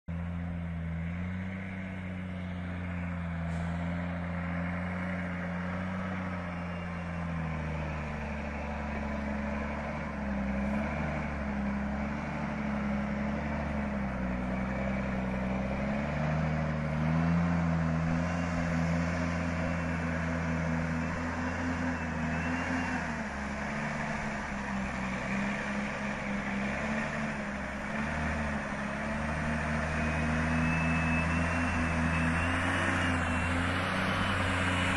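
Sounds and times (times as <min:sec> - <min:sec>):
truck diesel engine: 0:00.1 - 0:34.9.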